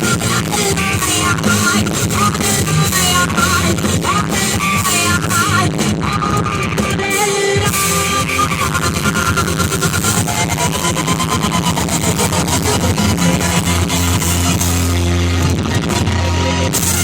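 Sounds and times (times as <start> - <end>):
bass guitar: 0.0 - 17.0
drums: 0.0 - 17.0
electric guitar lead: 0.0 - 17.0.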